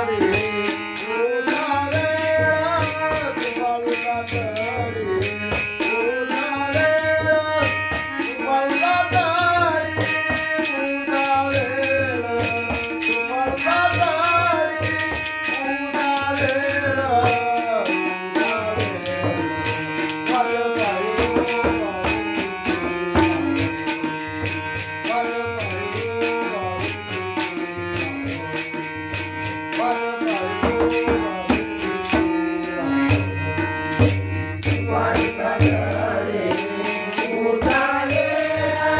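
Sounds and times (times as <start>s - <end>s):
man singing: 0.0s - 38.9s
small hand cymbals: 0.2s - 38.9s.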